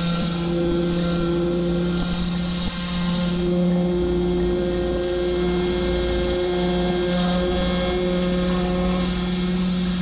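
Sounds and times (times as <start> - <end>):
pressure washer engine hum: 0.0 - 10.0
water spray hiss: 0.0 - 10.0.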